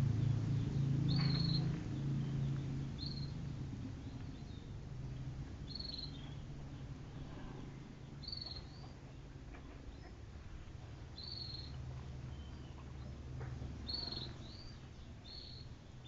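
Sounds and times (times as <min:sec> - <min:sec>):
low steady hum: 0:00.0 - 0:16.0
small bird chirping: 0:00.1 - 0:16.0.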